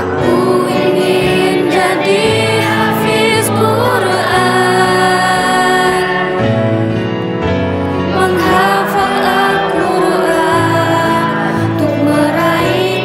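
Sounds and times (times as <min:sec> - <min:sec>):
person singing with choir: 0:00.0 - 0:06.8, 0:08.0 - 0:13.0.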